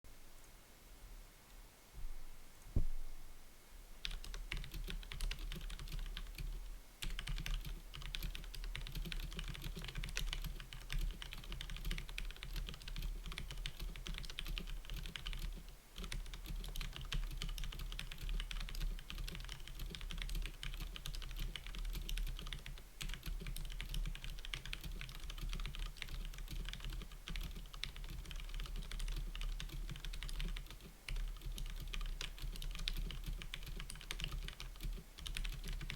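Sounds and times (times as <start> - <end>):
typing on mechanical keyboard: 4.0 - 35.9.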